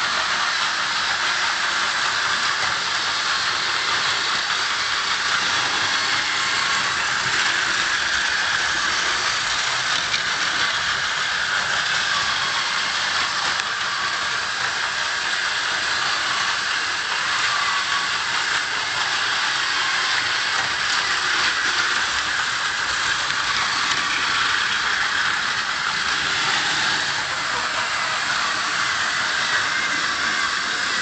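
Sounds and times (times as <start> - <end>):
toy train motors whirring: 0.0 - 31.0.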